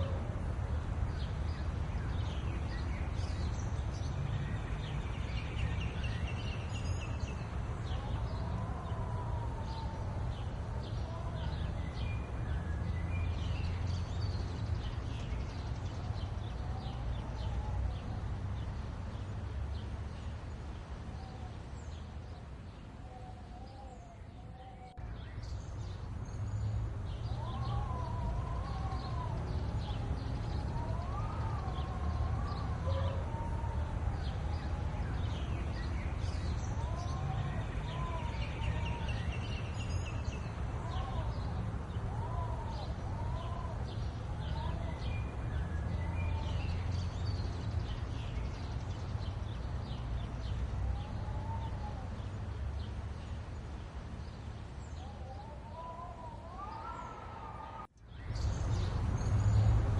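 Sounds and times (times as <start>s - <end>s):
birds calling and chirping: 1.1s - 59.9s.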